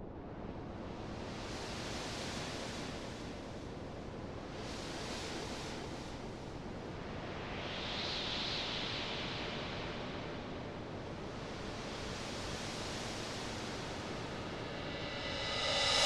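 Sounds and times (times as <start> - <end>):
soft steady wash of noise: 0.0 - 16.0.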